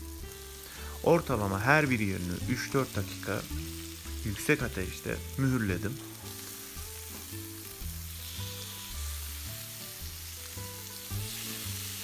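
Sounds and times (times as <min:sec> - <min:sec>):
meat sizzling on a grill pan: 0:00.0 - 0:12.0
soft background music: 0:00.0 - 0:12.0.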